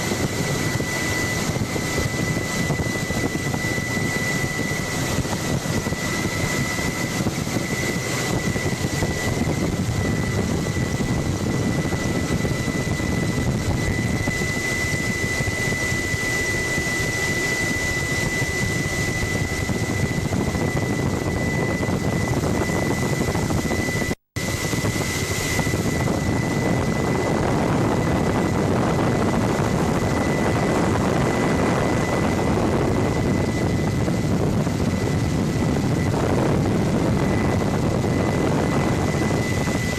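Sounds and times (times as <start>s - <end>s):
helicopter rotor and engine drone: 0.0s - 39.9s
high whine: 0.0s - 39.9s.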